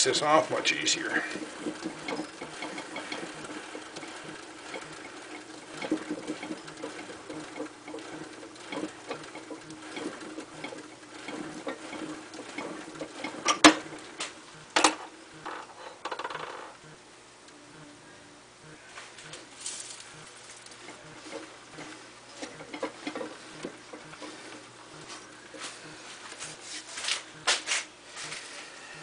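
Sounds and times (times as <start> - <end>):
metal ticking and scraping: 0.0 - 16.7, 19.3 - 26.8
steady hum: 0.0 - 29.0.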